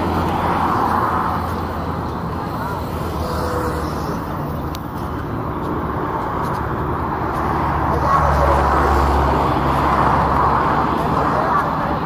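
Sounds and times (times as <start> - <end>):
busy city traffic: 0.0 - 12.0
heavy vehicle engine rumble: 0.0 - 12.0.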